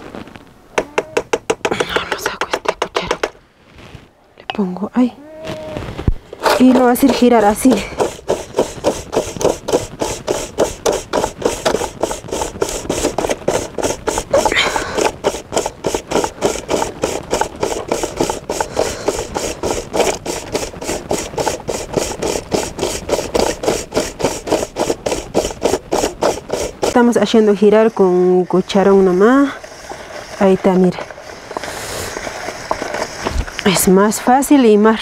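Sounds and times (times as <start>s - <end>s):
ice grating against steel bowl: 6.3s - 35.0s.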